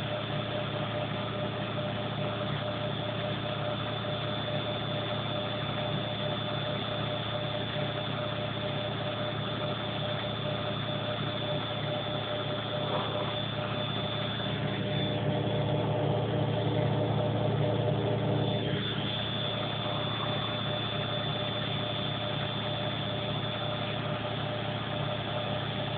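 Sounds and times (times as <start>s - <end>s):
washing machine spinning: 0.0s - 25.9s.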